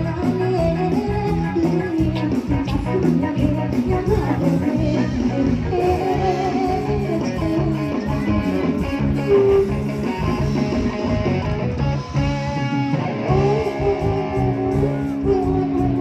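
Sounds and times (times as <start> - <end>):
guitar playing: 0.0 - 16.0
pulsing bass line: 0.0 - 16.0.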